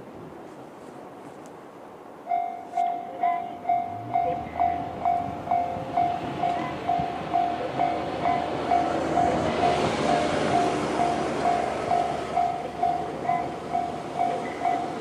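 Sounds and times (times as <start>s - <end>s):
level crossing warning bell: 2.3s - 15.0s.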